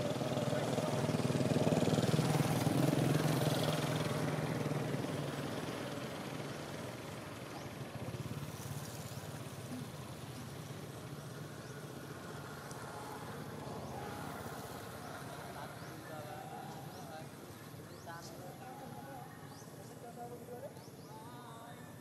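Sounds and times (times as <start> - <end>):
vehicle engine low hum: 0.0 - 21.3.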